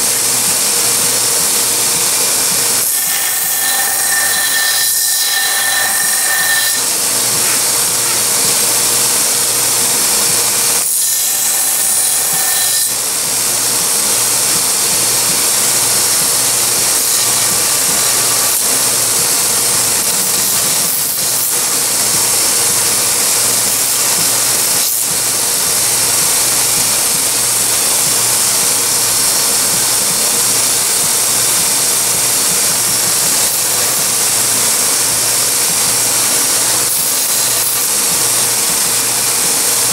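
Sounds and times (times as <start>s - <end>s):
belt grinder sanding: 0.0s - 39.9s.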